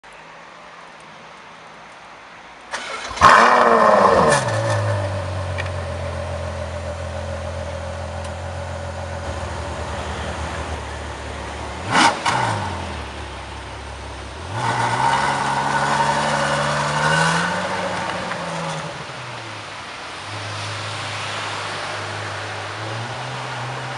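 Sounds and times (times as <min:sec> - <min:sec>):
car accelerating: 0:02.7 - 0:23.9
car engine starting and revving: 0:02.7 - 0:23.9.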